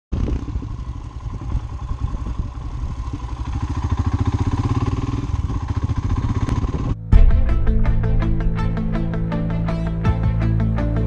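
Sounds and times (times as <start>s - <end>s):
motorcycle engine running: 0.1s - 10.4s.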